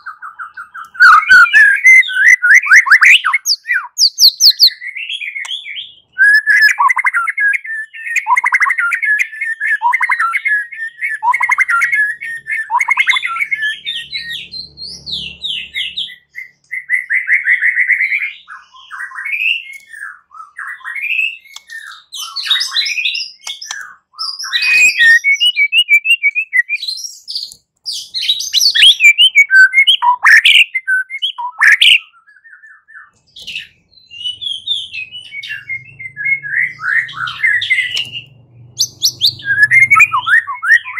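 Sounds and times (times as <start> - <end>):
songbird whistling song: 0.0 - 40.9.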